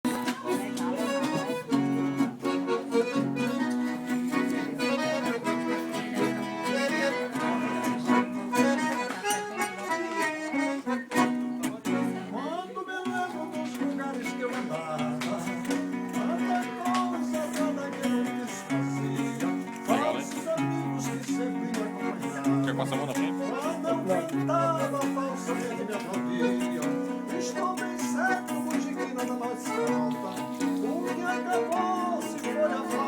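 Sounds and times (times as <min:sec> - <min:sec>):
plucked guitar: 0:00.0 - 0:33.0
accordion sustained notes: 0:00.1 - 0:12.3, 0:13.4 - 0:33.0.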